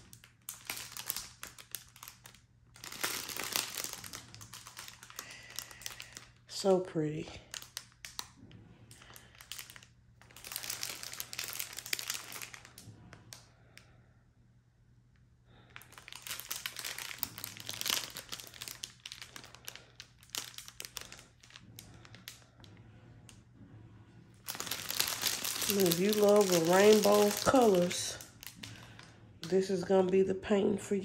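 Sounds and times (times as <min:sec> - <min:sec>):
plastic bag crinkling: 0:00.0 - 0:13.5, 0:15.6 - 0:23.4, 0:24.3 - 0:30.5.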